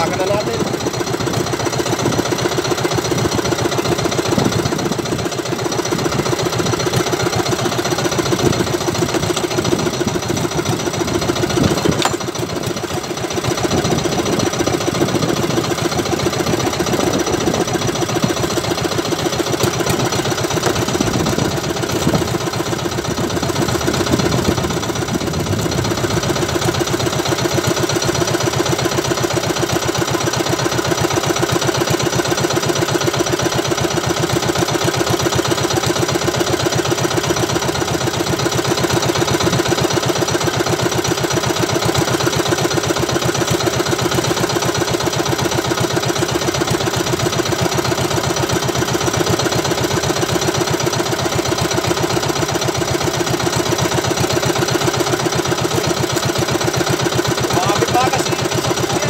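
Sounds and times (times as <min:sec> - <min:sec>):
boat engine chugging: 0:00.0 - 0:59.0.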